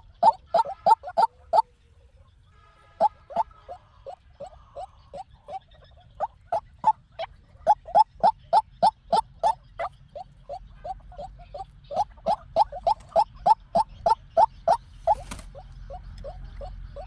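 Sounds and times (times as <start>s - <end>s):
waterhen calling: 0.0s - 1.7s, 2.8s - 17.0s.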